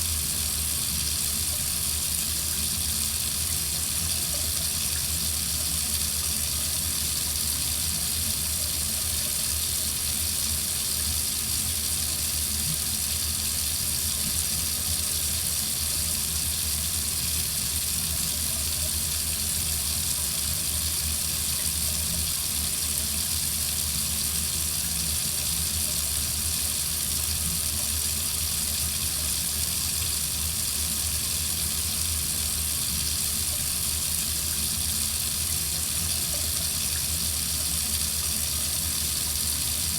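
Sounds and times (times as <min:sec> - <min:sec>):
water tap running: 0:00.0 - 0:39.9.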